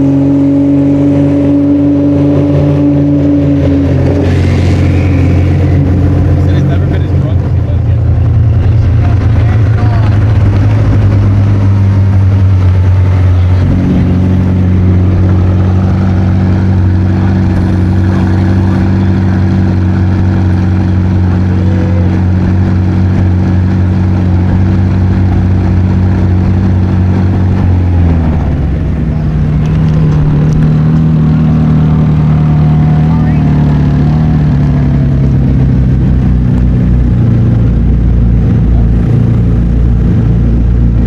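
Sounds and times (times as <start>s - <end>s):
car engine idling fast: 3.2s - 41.0s.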